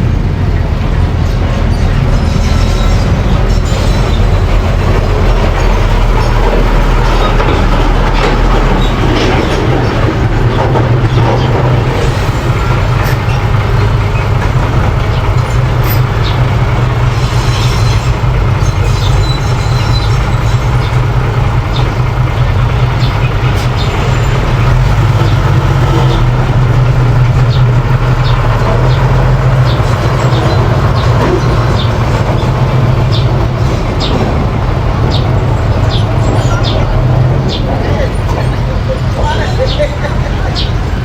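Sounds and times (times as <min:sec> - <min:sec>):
diesel engine running: 0:00.0 - 0:41.0
steel tracks clanking and squeaking: 0:00.0 - 0:41.0.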